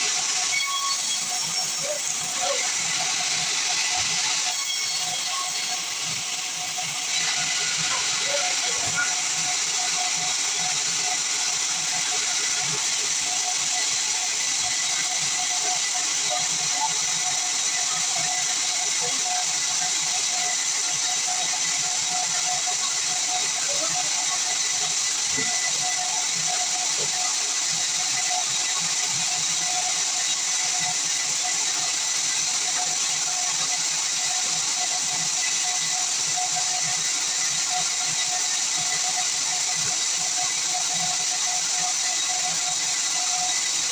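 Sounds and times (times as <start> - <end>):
band saw cutting wood: 0.0 - 43.9.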